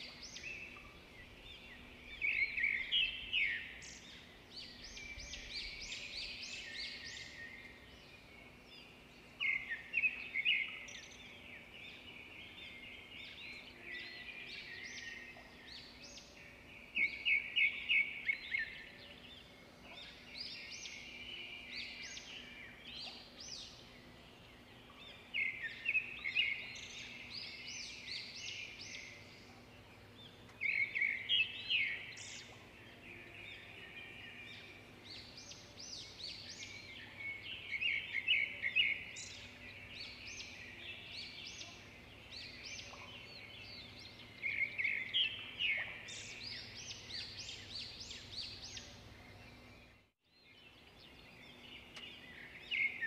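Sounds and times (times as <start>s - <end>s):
songbird trilling and chirping: 0.0s - 29.5s, 30.2s - 53.0s.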